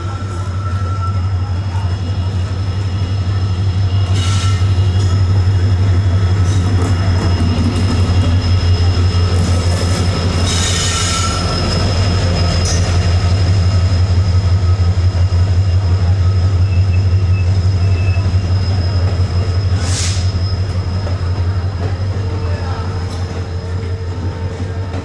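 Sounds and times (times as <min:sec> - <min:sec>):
diesel locomotive engine drone: 0:00.0 - 0:25.0
train wheels rumbling on rails: 0:00.0 - 0:25.0.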